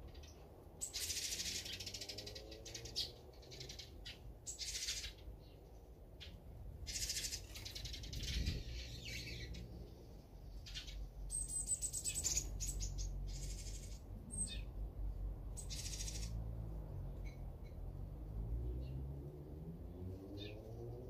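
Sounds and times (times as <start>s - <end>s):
songbirds chattering calls: 0.0s - 14.8s, 15.4s - 17.8s, 19.9s - 21.0s.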